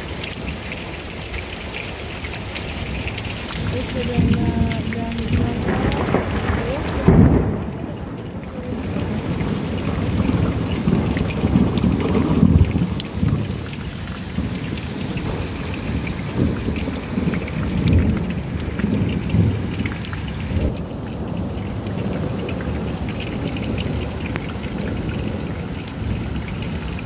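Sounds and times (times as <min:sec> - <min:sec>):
heavy rain pouring: 0:00.0 - 0:27.0
raindrops ticking nearby: 0:00.0 - 0:27.0
thunder rumbling: 0:03.4 - 0:27.0.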